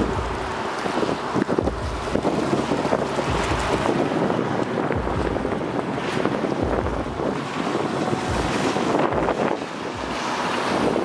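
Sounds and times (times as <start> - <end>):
rush of wind: 0.0 - 11.0
surf: 0.0 - 11.0
wind buffeting the microphone: 0.0 - 11.0.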